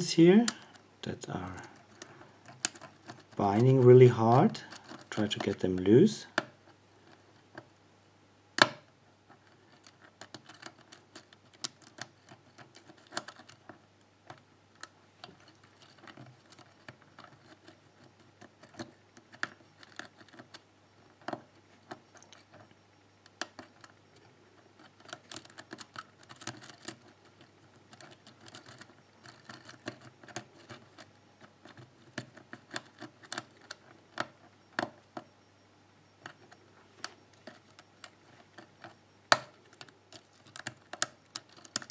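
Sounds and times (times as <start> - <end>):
lock pick clicking and scraping: 1.4 - 7.7, 8.6 - 35.3, 36.2 - 41.9.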